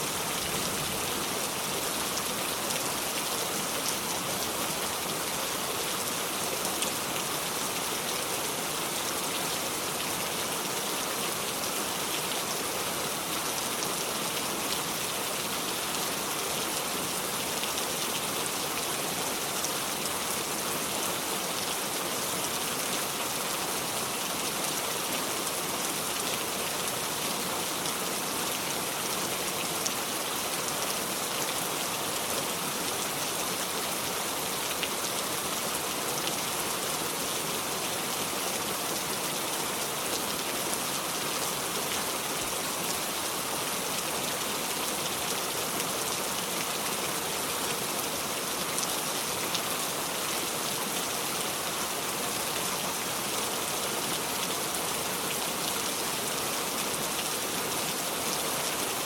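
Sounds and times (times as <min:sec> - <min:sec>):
heavy rain on a surface: 0:00.0 - 0:59.0.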